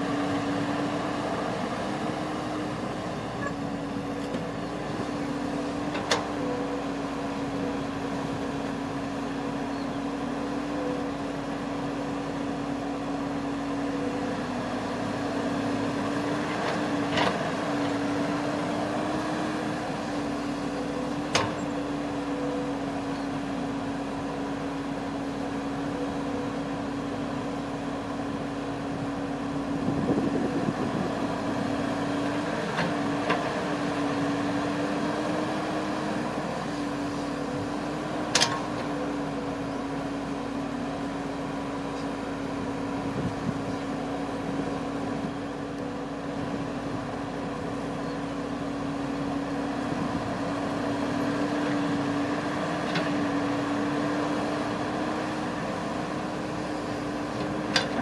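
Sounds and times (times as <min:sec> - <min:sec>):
harvester engine humming: 0:00.0 - 0:58.0.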